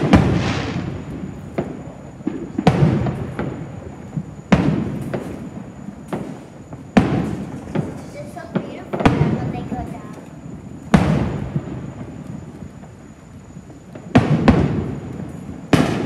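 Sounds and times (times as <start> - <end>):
fireworks bursting with booms: 0.0 - 16.0
fireworks crackle: 0.0 - 16.0.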